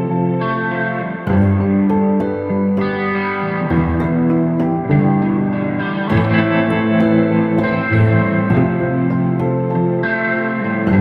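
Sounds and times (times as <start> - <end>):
guitar music with sustained chords: 0.0 - 11.0.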